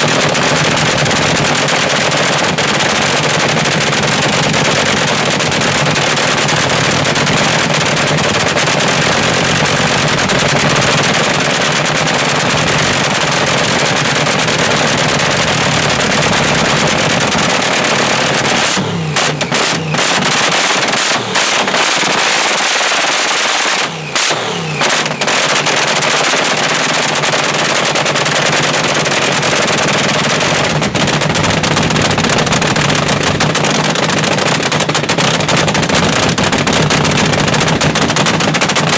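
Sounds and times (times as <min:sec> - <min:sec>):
dragster engine running loud: 0:00.0 - 0:38.9.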